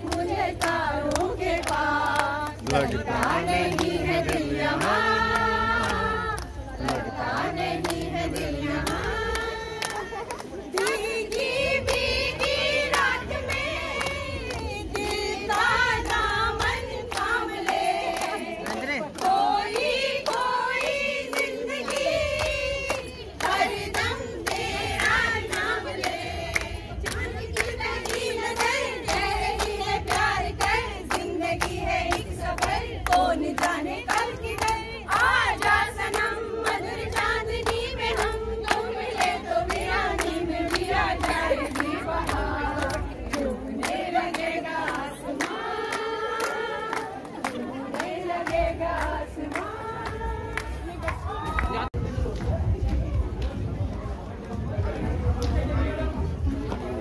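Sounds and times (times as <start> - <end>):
women singing together: 0.0 - 52.0
rhythmic hand-clapping: 0.0 - 57.0.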